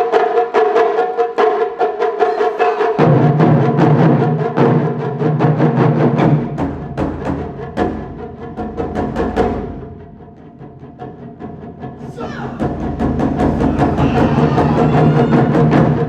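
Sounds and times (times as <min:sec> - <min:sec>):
taiko drums: 0:00.0 - 0:16.0.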